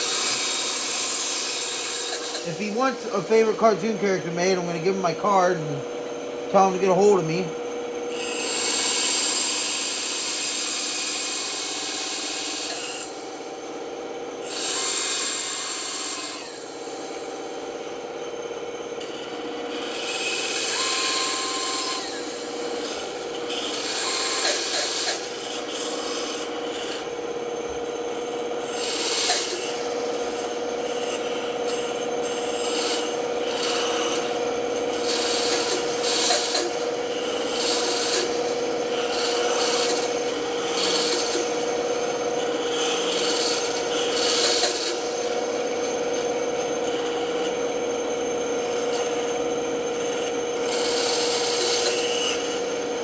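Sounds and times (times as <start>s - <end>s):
saw blade cutting wood: 0.0s - 5.8s, 6.6s - 7.5s, 8.1s - 13.3s, 14.4s - 17.2s, 19.0s - 53.0s
band saw humming: 0.0s - 13.5s, 19.0s - 53.0s.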